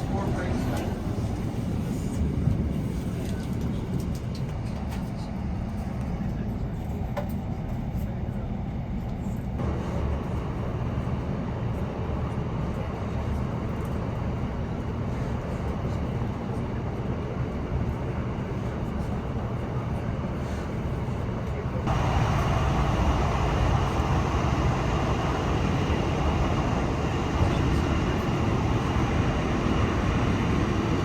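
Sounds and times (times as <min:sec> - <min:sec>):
train rumbling inside carriage: 0:00.0 - 0:31.0.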